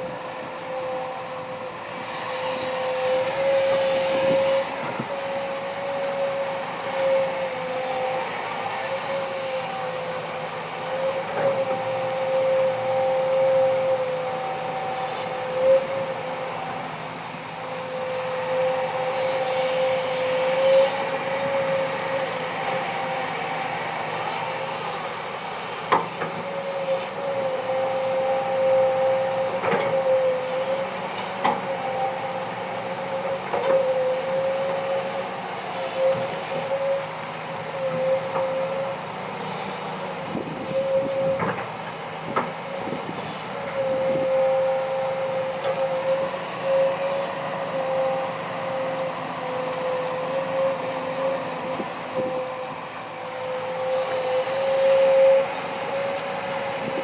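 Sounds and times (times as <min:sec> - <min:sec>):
excavator engine whining: 0:00.0 - 0:57.0.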